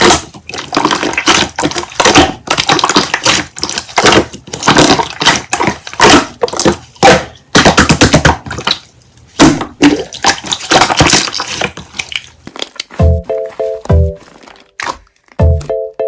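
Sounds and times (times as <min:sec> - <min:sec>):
slime squished by hand: 0:00.0 - 0:13.1.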